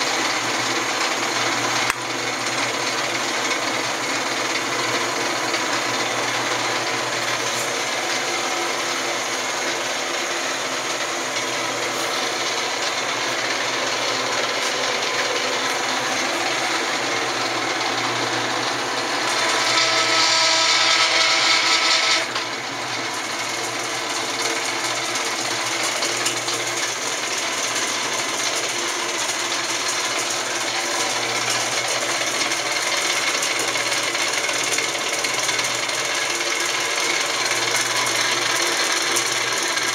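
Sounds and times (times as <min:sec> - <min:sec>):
lathe running with gear whine: 0:00.0 - 0:39.9.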